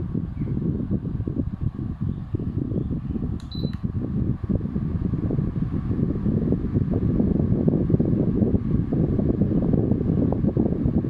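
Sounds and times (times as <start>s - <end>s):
fan air rushing: 0.0s - 11.0s.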